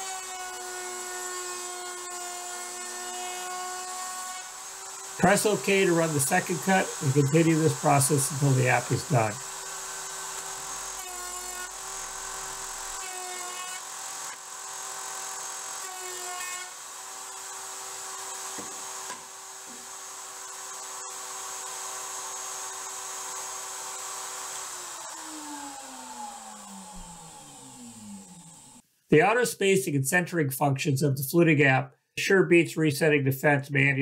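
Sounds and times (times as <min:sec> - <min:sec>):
router spinning down: 0:00.0 - 0:28.8
wood router cutting: 0:00.0 - 0:28.8.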